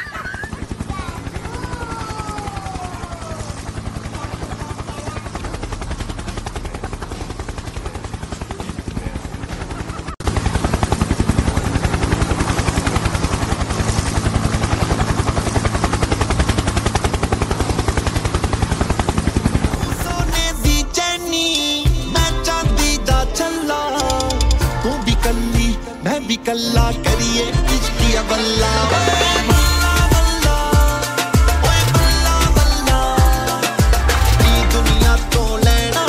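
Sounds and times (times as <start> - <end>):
helicopter rotor chopping: 0.0 - 25.9, 26.5 - 36.0.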